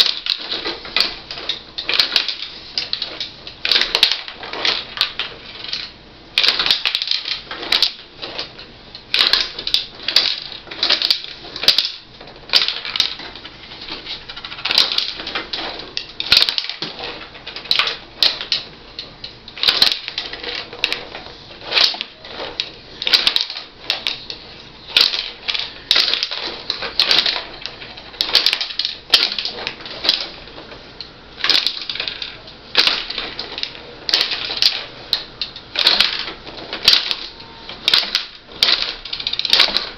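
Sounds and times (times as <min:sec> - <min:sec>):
metal rods and figures clacking: 0:00.0 - 0:39.9.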